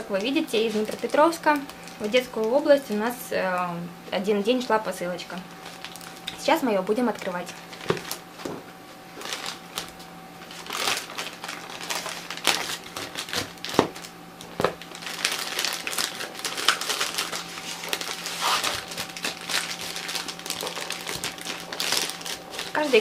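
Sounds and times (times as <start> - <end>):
plastic mailer bag crinkling: 0.0 - 3.1, 5.6 - 8.4, 9.1 - 23.0.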